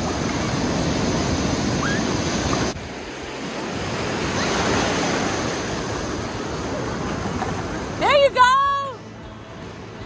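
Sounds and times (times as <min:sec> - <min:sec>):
ocean surf breaking: 0:00.0 - 0:09.2.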